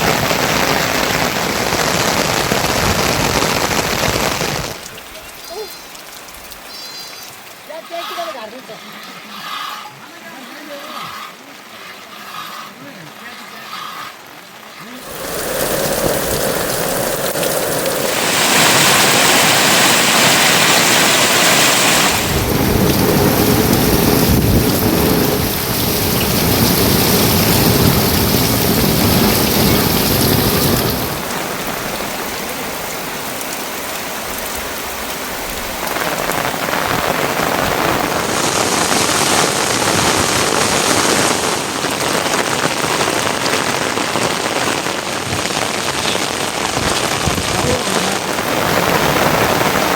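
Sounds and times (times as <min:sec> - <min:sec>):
heavy rain pouring: 0:00.0 - 0:08.6, 0:14.3 - 0:49.9.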